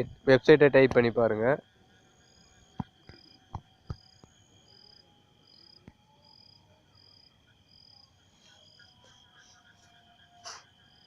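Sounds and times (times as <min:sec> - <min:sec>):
crickets chirping: 0:00.0 - 0:11.0
high insect trill: 0:00.0 - 0:11.0.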